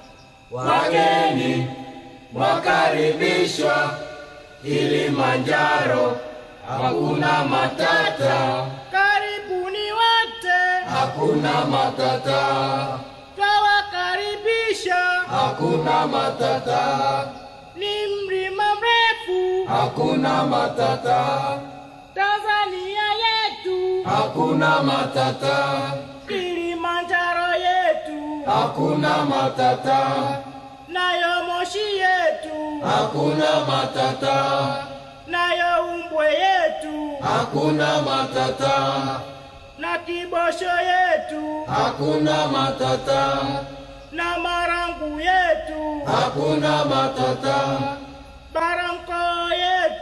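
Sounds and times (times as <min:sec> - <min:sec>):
men singing unaccompanied chant: 0:00.0 - 0:50.0.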